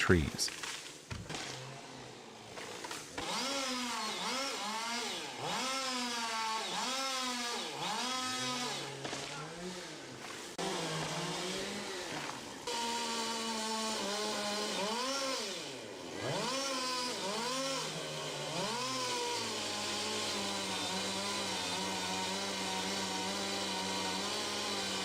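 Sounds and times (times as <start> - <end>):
chainsaw revving: 1.3 - 25.0.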